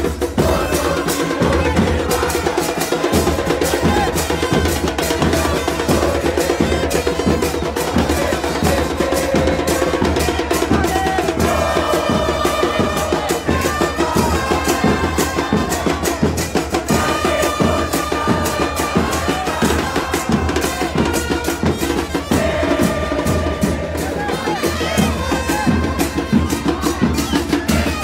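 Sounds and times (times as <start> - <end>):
drum band beating fast rhythm: 0.0 - 28.0.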